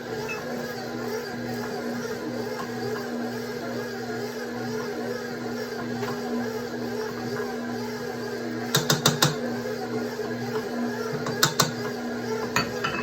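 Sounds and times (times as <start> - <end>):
stand mixer kneading dough: 0.0 - 13.0.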